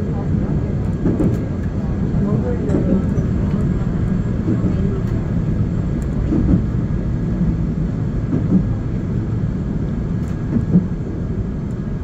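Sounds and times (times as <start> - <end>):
electric train rumbling on track: 0.0 - 12.0.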